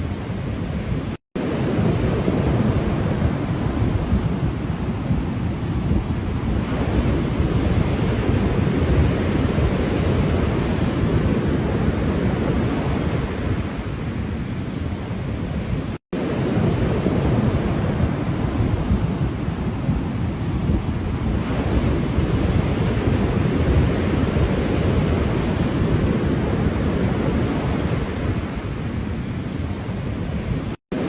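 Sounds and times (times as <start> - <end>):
ocean surf washing: 0.0 - 31.0.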